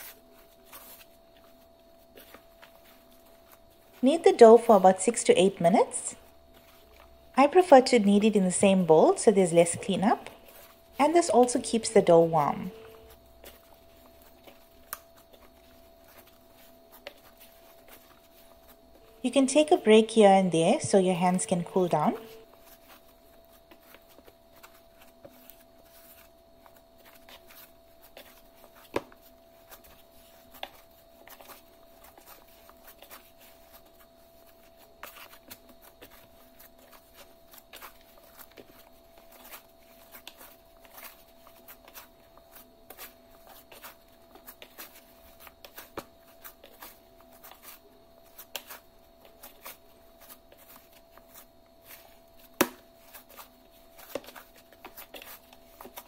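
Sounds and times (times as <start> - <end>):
faint steady hum: 0.0 - 56.0
hands kneading dough: 0.0 - 56.0.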